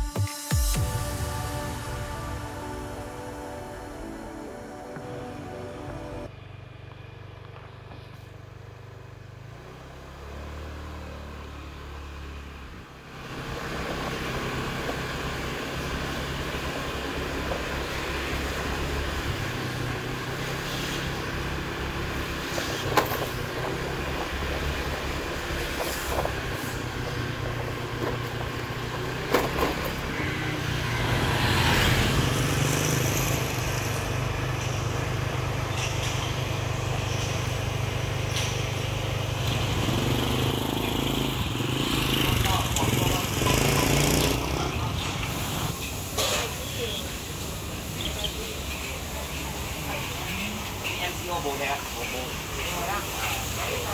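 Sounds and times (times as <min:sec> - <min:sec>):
vehicle road noise rumble: 0:00.9 - 0:53.9.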